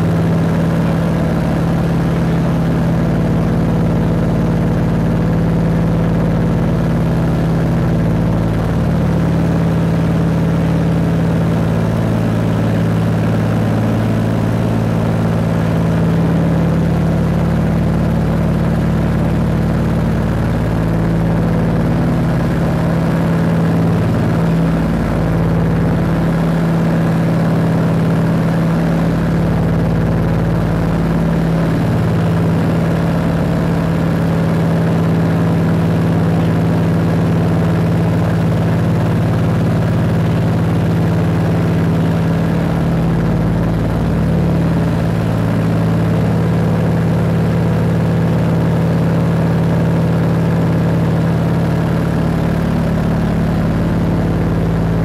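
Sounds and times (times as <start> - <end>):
propeller plane cabin drone: 0.0 - 55.0.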